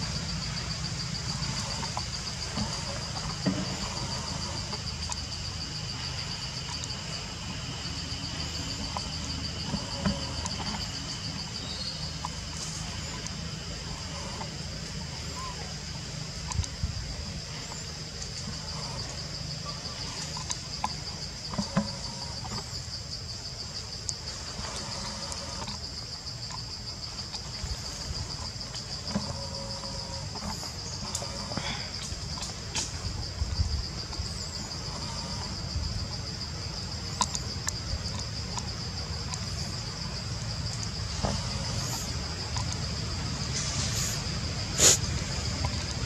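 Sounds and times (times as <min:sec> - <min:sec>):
insect chorus buzzing: 0:00.0 - 0:46.0.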